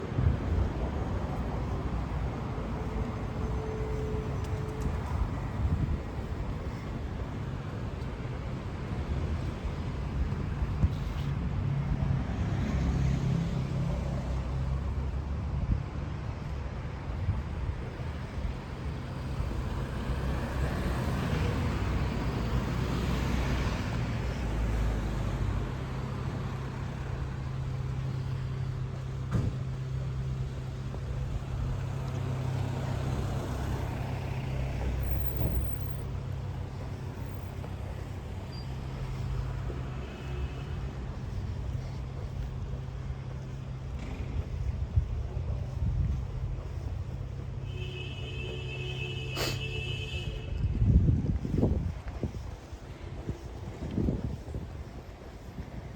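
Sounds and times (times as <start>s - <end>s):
cars passing: 0.0s - 55.9s
steady low traffic rumble: 0.0s - 55.9s.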